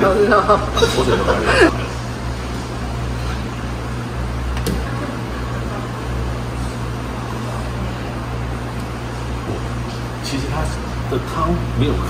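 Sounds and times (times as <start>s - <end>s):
electrical hum with fan noise: 0.0s - 12.0s.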